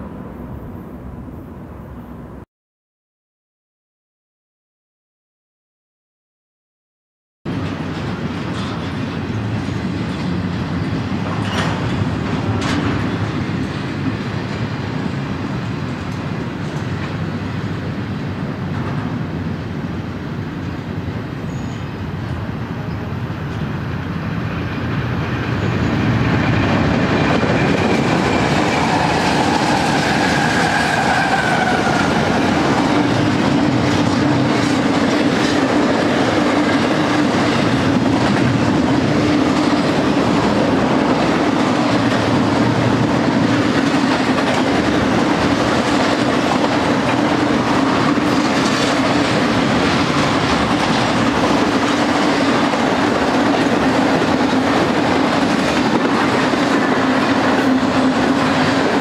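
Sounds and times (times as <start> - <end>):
freight train wheels on rails: 7.5 - 59.0.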